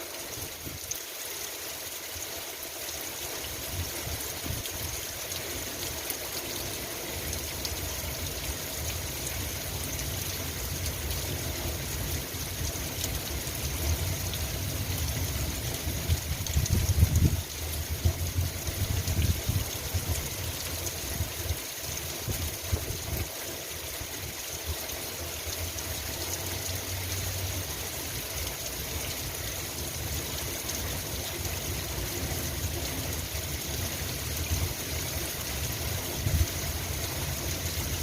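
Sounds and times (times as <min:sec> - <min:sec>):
rain patter: 0:00.0 - 0:38.0.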